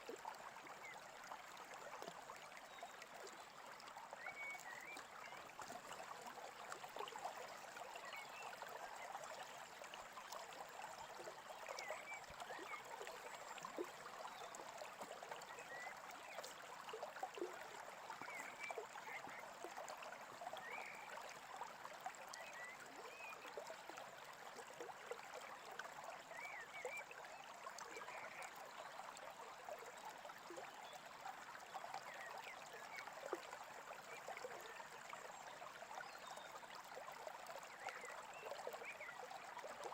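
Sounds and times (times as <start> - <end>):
small stream babbling: 0.0 - 39.9.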